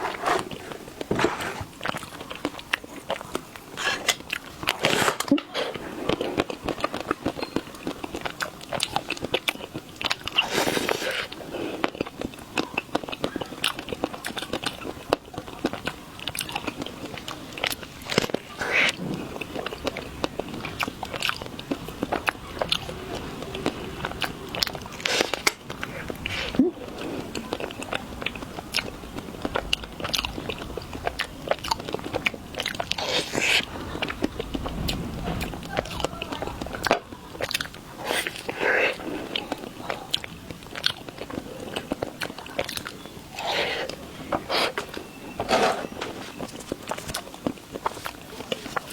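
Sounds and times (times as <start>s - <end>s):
chewing chocolate crunches: 1.7s - 48.9s.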